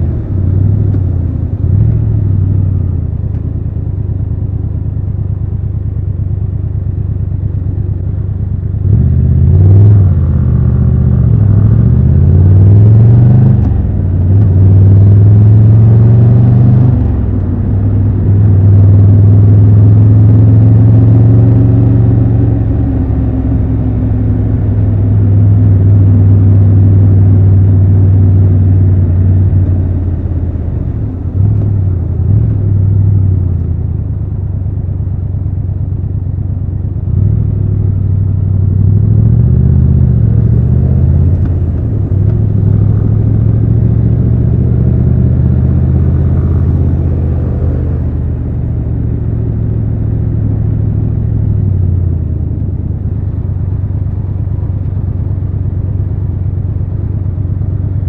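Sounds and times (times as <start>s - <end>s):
motorcycle engine running: 0.0s - 12.9s, 13.6s - 58.0s.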